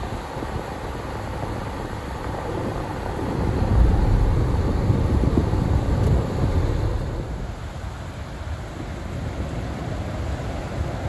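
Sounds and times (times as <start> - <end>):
car engine and tyre rumble: 0.0 - 10.9.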